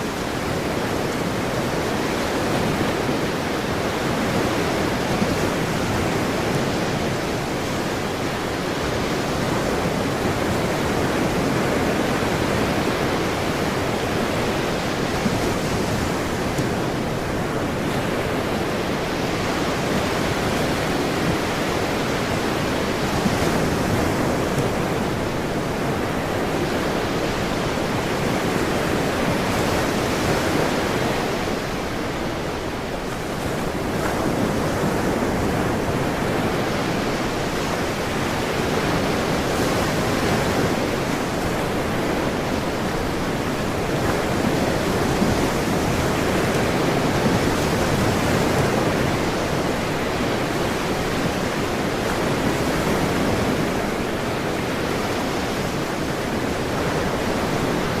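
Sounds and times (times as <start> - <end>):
ocean surf washing: 0.0 - 58.0.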